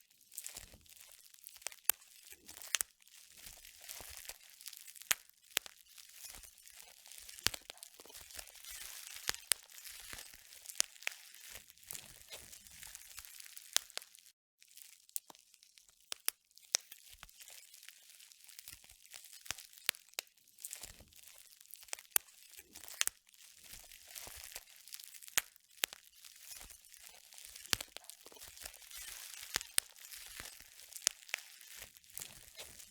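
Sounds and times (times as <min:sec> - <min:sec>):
bubble wrap popping: 0:00.4 - 0:32.9
plastic sheet crinkling: 0:00.9 - 0:14.3, 0:17.4 - 0:32.9.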